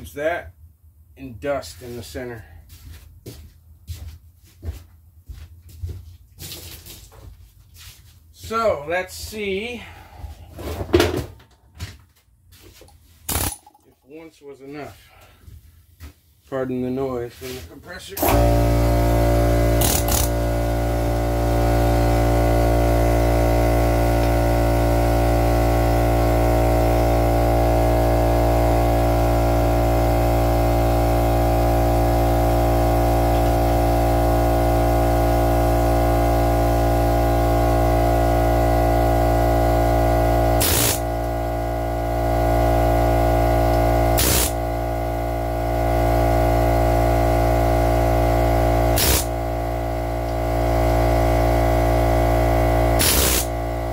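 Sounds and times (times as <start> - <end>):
air compressor droning: 7.8 - 11.3, 12.5 - 53.9.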